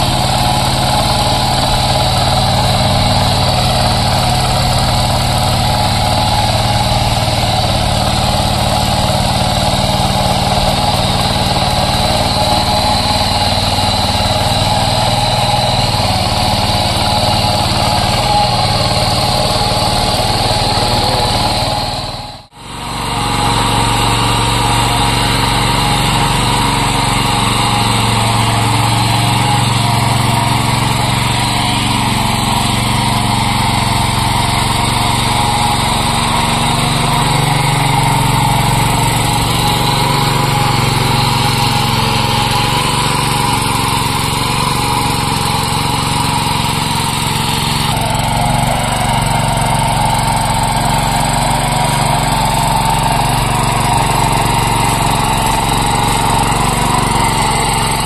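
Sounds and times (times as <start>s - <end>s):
small single-cylinder engine running: 0.0s - 58.0s.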